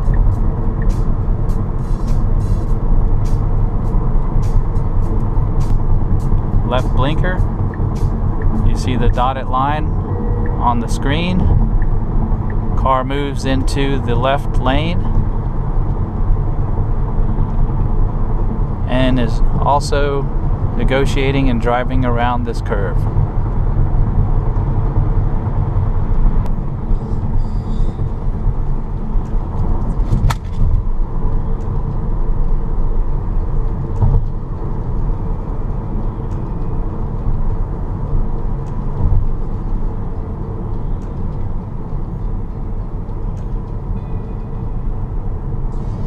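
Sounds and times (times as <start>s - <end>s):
tyre and wind road noise: 0.0s - 46.0s.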